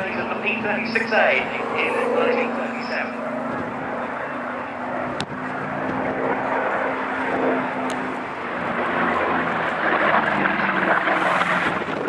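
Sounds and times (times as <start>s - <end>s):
radial piston engine in flight: 0.0s - 12.0s.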